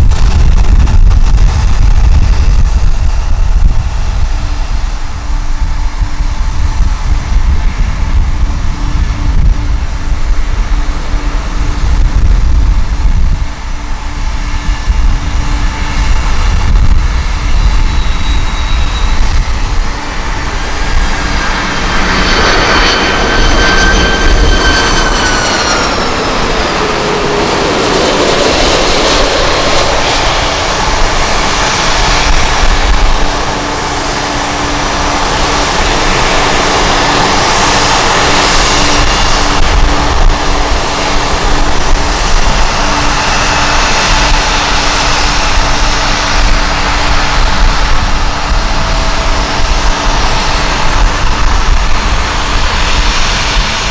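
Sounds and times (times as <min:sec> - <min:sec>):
jet airliner flying past: 0:00.0 - 0:53.9
wind buffeting microphone: 0:00.0 - 0:53.9.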